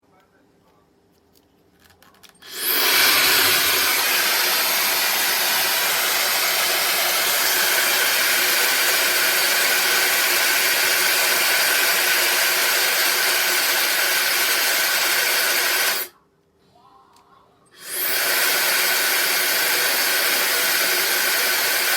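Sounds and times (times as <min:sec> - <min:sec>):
hair dryer running: 0:02.4 - 0:16.1, 0:17.8 - 0:21.9.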